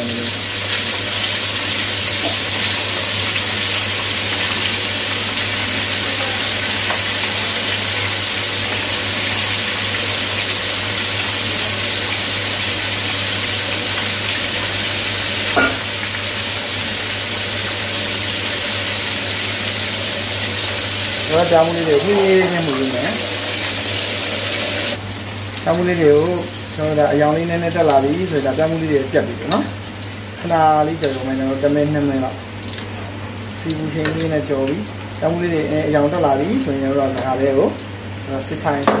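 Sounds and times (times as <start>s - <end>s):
hot oil sizzling in a wok: 0.0s - 39.0s.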